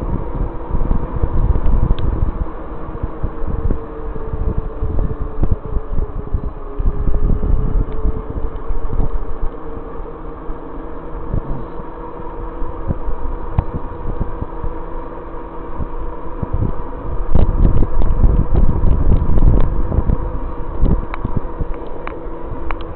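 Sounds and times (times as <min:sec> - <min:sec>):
electric motor whine: 0:00.0 - 0:22.9
road noise: 0:00.0 - 0:22.9
wind buffeting microphone: 0:00.0 - 0:22.9.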